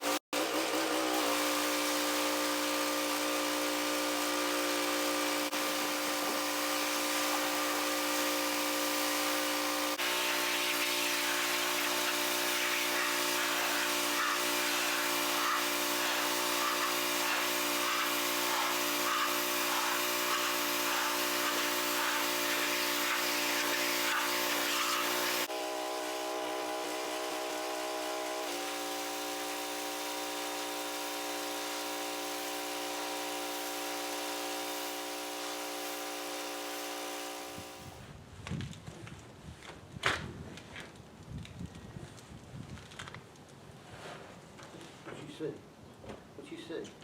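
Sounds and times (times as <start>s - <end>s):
power tool motor whining: 0.0s - 38.0s.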